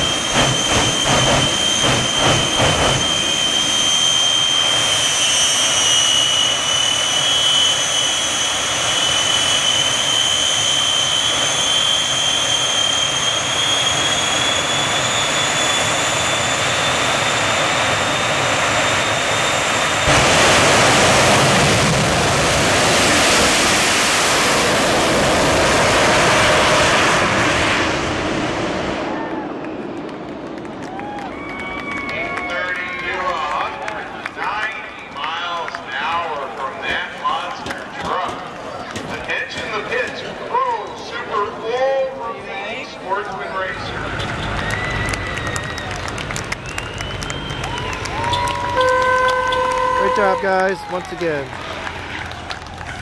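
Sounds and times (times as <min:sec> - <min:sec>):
jet engines whining and roaring: 0:00.0 - 0:53.0.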